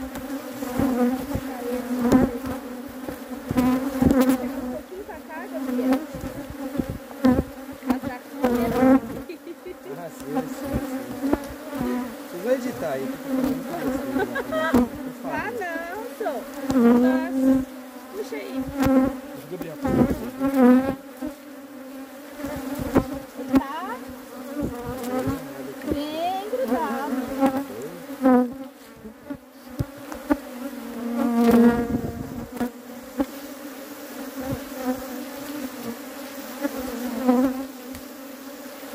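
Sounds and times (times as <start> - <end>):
bees buzzing: 0.0 - 38.9
bees flying close past: 0.0 - 38.9.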